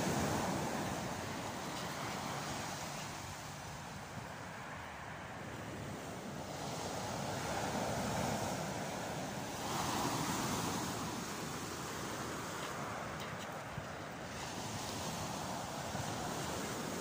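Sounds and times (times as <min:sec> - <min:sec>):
waves crashing on beach: 0:00.0 - 0:17.0.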